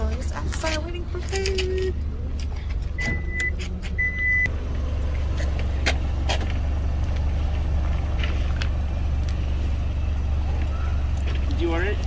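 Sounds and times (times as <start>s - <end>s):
vehicle motor rumble: 0.0s - 12.0s.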